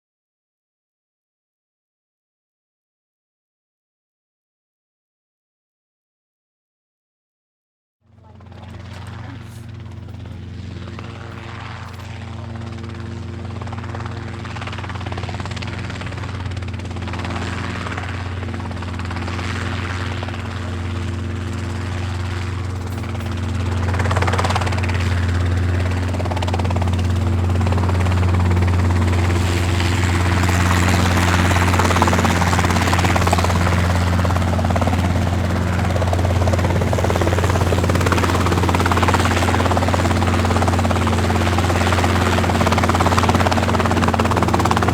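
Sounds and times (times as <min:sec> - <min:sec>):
helicopter rotor and turbine: 0:08.1 - 0:44.9.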